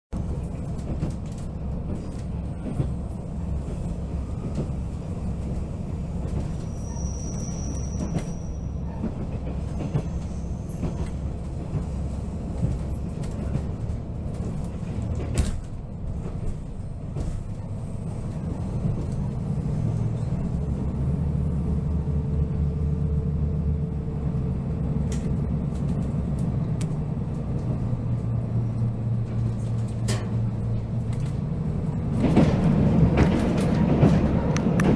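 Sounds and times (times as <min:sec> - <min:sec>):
railcar engine and wheels rumbling: 0:00.1 - 0:34.9.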